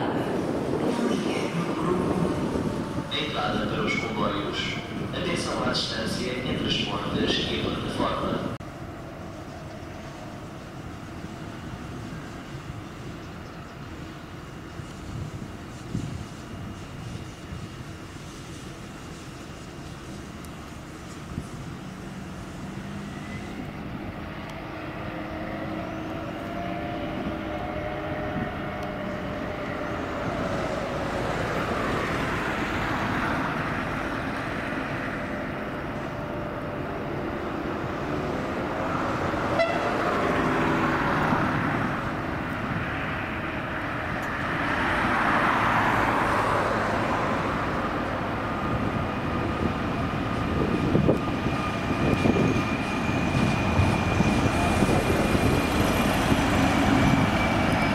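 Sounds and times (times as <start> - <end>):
train wheels rumbling: 0.0 - 57.9.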